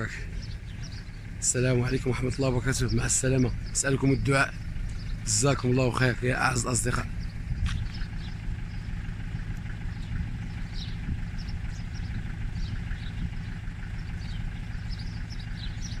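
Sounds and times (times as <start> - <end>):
engine idling hum: 0.0 - 16.0
small birds chirping: 0.0 - 16.0.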